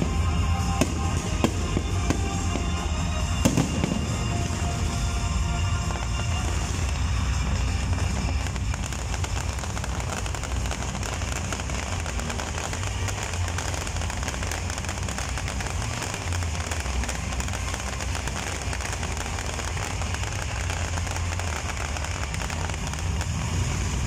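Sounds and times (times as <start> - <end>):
fireworks crackles and bangs: 0.0 - 24.0
low rumble: 0.0 - 24.0.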